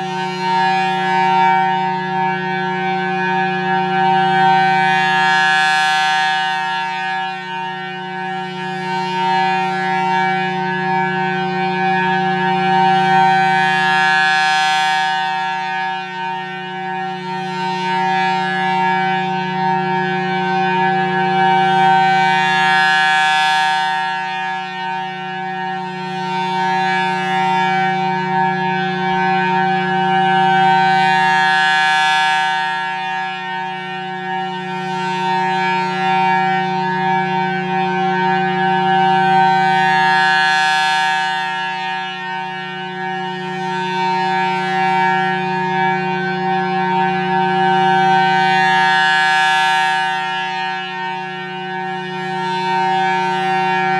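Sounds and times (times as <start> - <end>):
siren steady tone: 0.0 - 53.9.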